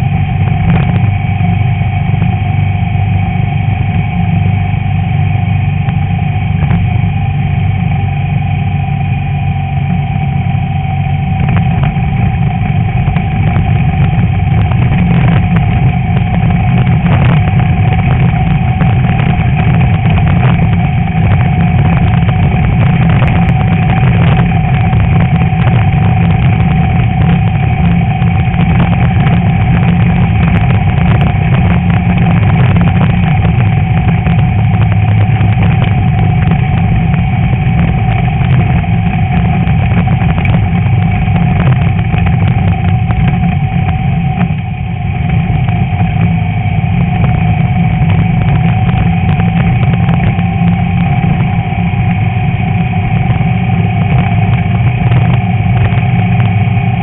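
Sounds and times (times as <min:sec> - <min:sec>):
car engine running hard: 0:00.0 - 0:57.0.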